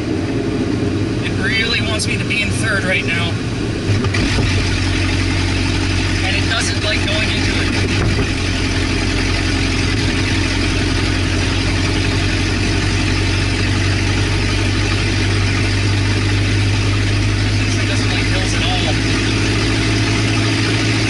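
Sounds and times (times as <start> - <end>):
car engine drone without exhaust: 0.0 - 21.0.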